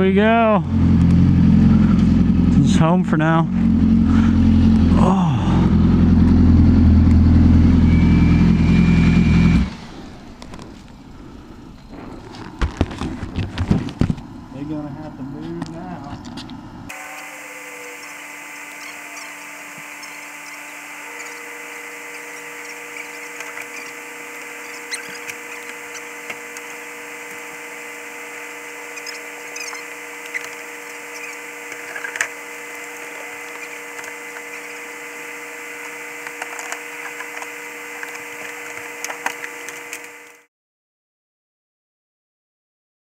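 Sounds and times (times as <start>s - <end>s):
steady mechanical hum: 0.0s - 40.5s.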